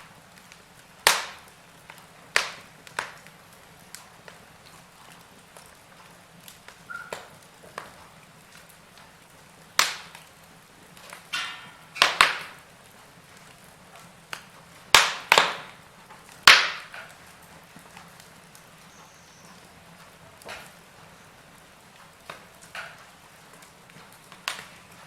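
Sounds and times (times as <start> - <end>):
low hiss: 0.0 - 25.0
sharp pops of fire: 0.0 - 25.0
wood fire crackling: 0.0 - 25.0.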